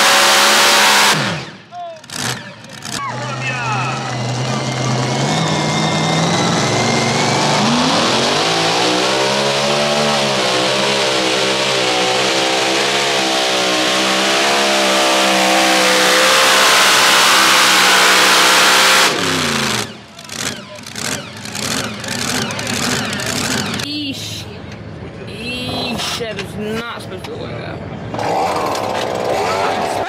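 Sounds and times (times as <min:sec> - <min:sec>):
tractor engine revving at full throttle: 0:00.0 - 0:23.9, 0:28.0 - 0:30.0.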